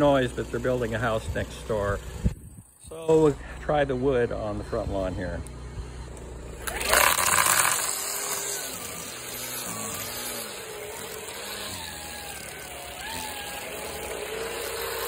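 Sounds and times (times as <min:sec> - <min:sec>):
string trimmer running: 0:00.0 - 0:15.0.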